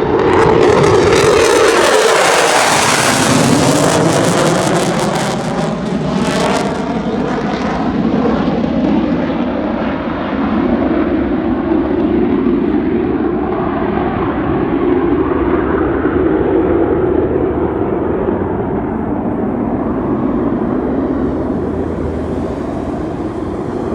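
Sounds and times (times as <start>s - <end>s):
fighter jet roaring on takeoff: 0.0s - 23.9s.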